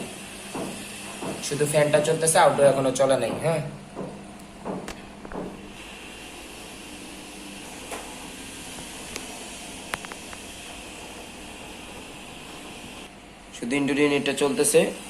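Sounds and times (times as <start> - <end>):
air conditioner fan blowing air: 0.0 - 15.0.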